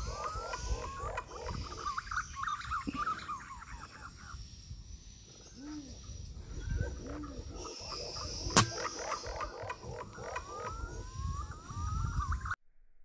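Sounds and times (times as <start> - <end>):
birds chirping and whistling: 0.0 - 12.6
low rising and falling bird call: 0.0 - 12.6.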